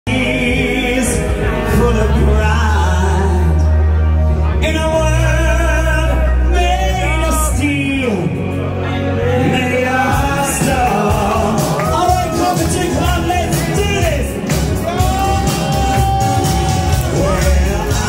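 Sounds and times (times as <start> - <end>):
backing music with deep bass: 0.0 - 18.0
person singing: 0.0 - 18.0.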